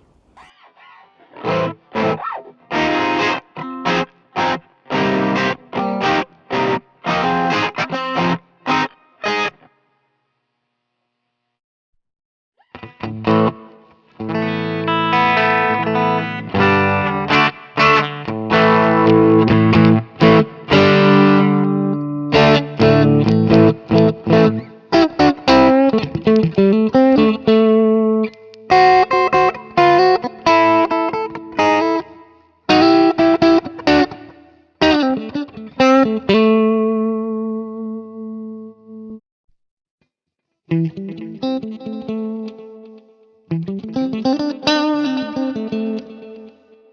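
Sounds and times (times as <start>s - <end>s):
electric guitar chords: 1.4s - 9.6s, 12.7s - 39.2s, 40.7s - 46.9s.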